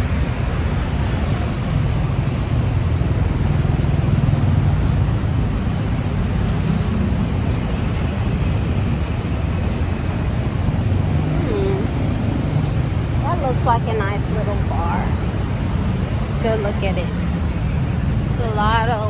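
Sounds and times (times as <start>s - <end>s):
rumble of passing traffic: 0.0s - 19.0s.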